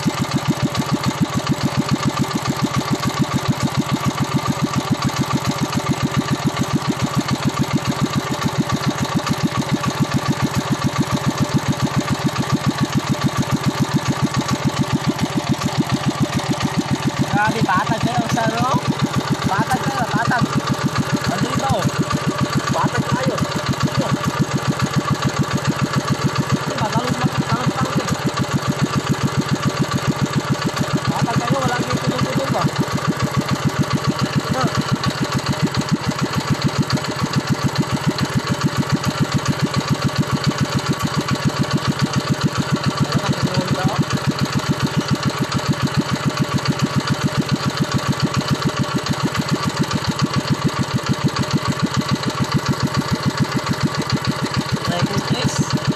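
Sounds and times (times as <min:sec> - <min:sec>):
single-cylinder engine running: 0:00.0 - 0:55.9.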